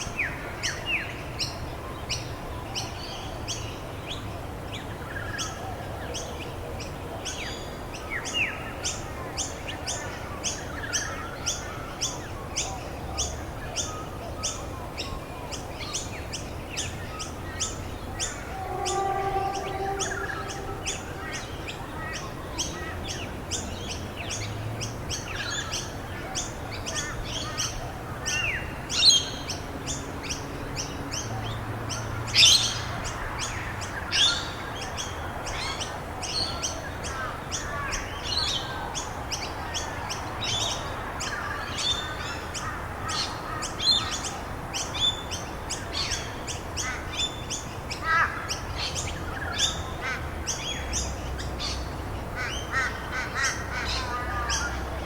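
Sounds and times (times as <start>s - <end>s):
songbirds chirping and calling: 0.0s - 55.0s.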